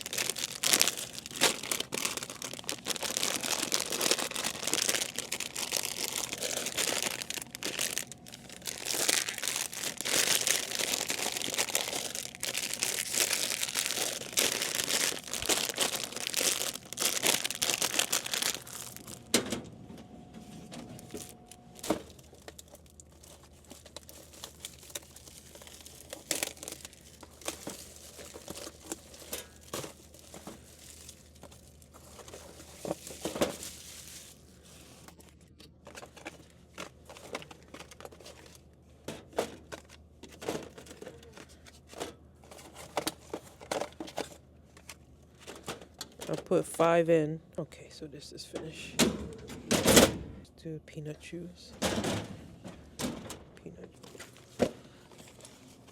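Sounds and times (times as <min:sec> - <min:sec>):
plastic wrappers crinkling: 0:00.0 - 0:19.3, 0:21.0 - 0:46.8, 0:54.0 - 0:55.9.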